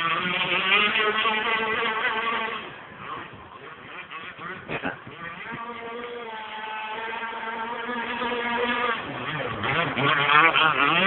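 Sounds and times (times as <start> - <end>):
model boat engine running: 0.0 - 11.0.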